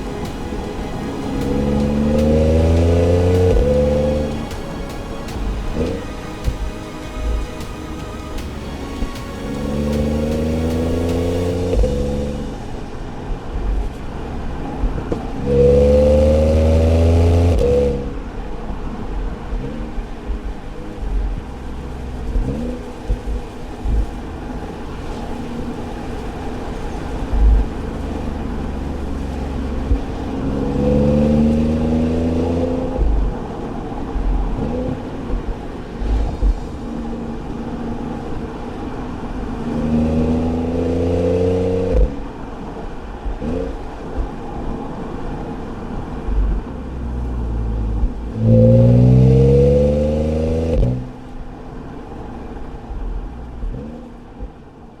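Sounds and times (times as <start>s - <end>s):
car engine and exhaust accelerating: 0.0s - 55.0s
low road rumble: 0.0s - 55.0s.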